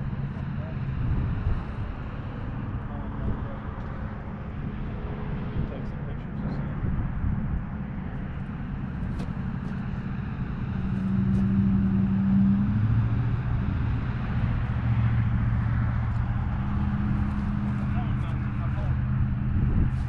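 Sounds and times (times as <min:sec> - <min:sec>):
vehicle driving past: 0:00.0 - 0:20.0.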